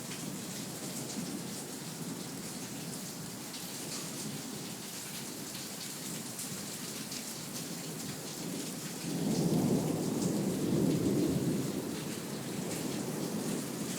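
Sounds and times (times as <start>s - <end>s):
heavy rain pouring: 0.0s - 13.9s.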